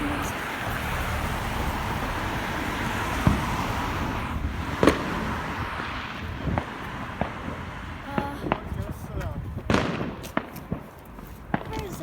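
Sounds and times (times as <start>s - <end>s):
firework bangs: 0.0s - 12.0s
passing cars: 0.0s - 12.0s.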